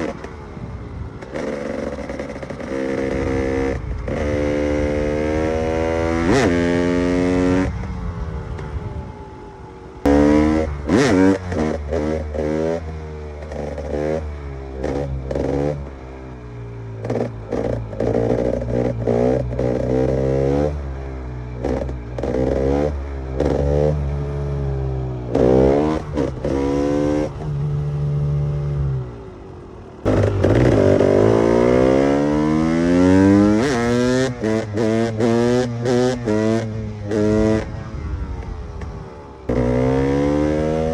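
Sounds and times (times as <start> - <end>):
two-stroke engine revving: 1.2 - 7.9, 10.0 - 16.2, 16.8 - 29.1, 30.0 - 40.9.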